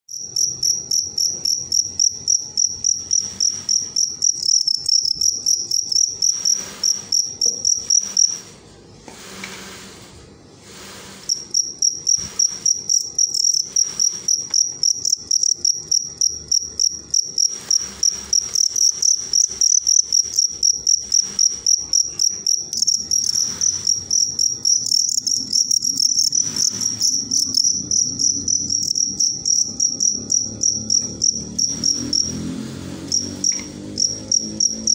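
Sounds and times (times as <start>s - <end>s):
crickets chirping: 0.1s - 8.5s, 10.7s - 34.9s.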